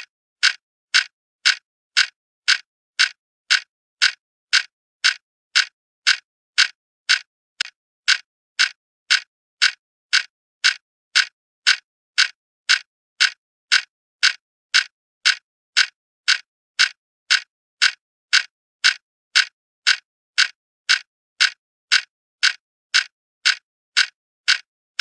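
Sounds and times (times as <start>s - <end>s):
clock ticking: 0.0s - 25.0s.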